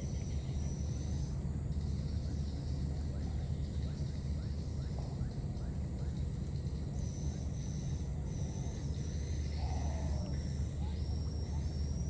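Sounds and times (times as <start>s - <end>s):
high insect trill: 0.0s - 12.0s
steady low rumble: 0.0s - 12.0s.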